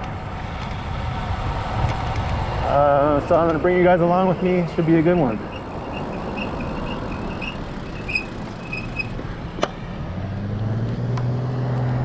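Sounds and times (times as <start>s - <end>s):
wind noise: 0.0s - 10.1s
bicycle road noise: 0.0s - 12.0s
vehicle engine hum: 0.0s - 12.0s.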